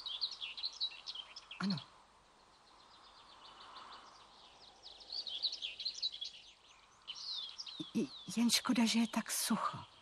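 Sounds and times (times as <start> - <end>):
faint outdoor hiss: 0.0 - 10.0
songbirds chirping: 0.0 - 10.0.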